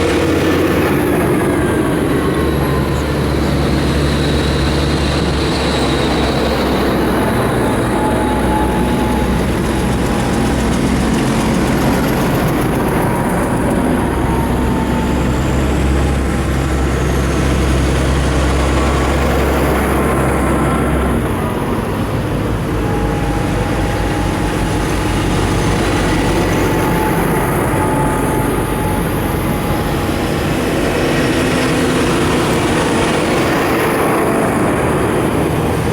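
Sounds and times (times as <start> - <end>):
tractor engines rumbling past: 0.0 - 35.9.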